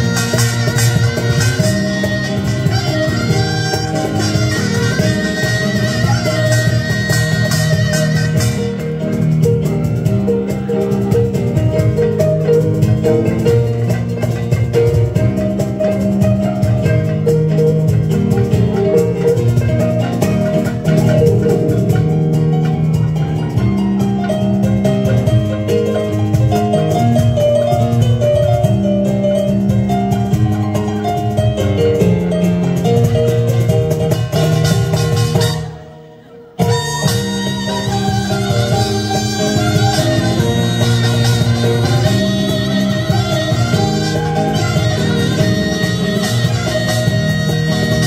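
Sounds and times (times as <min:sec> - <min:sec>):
traditional ensemble playing: 0:00.0 - 0:48.0.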